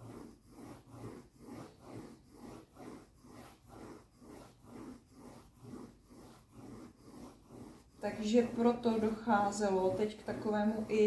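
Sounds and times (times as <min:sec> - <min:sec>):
pencil rubbing on paper: 0:00.0 - 0:11.0.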